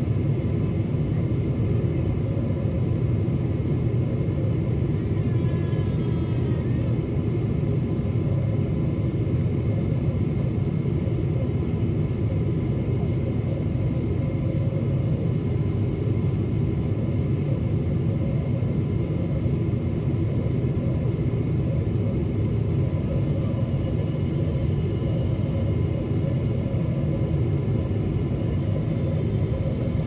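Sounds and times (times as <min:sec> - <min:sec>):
faint high whine: 0:00.0 - 0:30.0
jet cabin engine rumble: 0:00.0 - 0:30.0.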